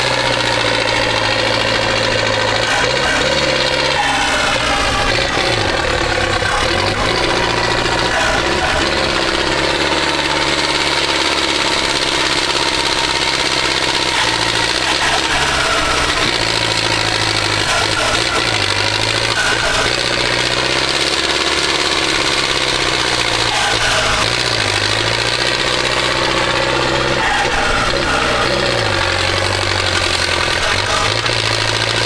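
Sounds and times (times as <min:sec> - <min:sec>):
tractor diesel engine revving: 0:00.0 - 0:32.0.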